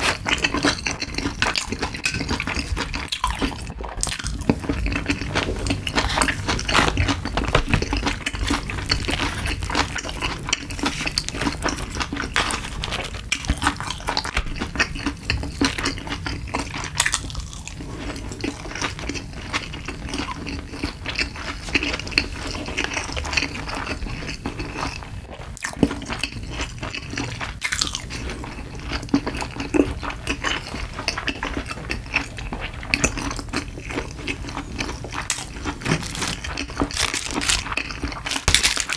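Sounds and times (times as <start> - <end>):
close chewing crackles: 0.0 - 38.9.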